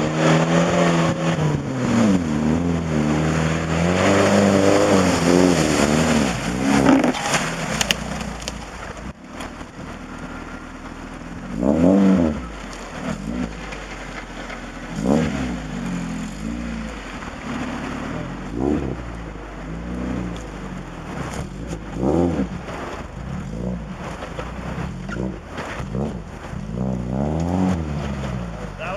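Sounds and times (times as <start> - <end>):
car engine revving under load: 0.0 - 28.9.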